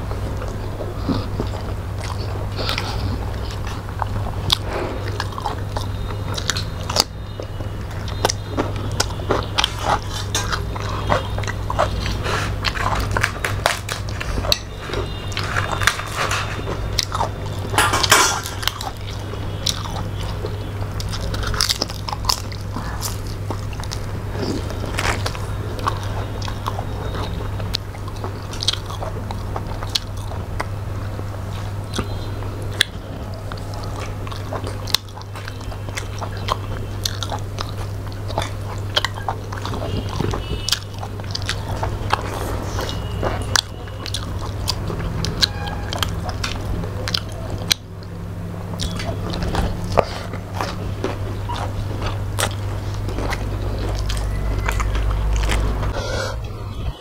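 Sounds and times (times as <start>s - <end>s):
food crunching: 0.0s - 57.0s
steady low hum: 0.0s - 57.0s
wet chewing and lip smacks: 0.4s - 17.8s, 18.4s - 56.9s.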